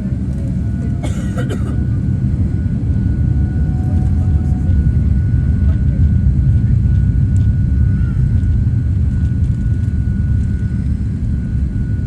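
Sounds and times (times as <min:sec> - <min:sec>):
jet airliner engines running: 0:00.0 - 0:12.0.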